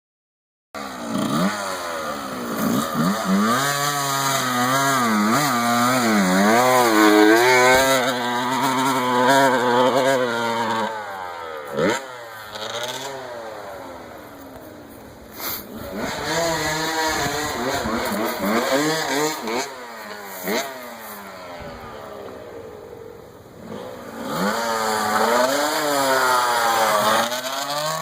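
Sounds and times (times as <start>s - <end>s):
dirt bike engine revving: 0.8s - 28.0s.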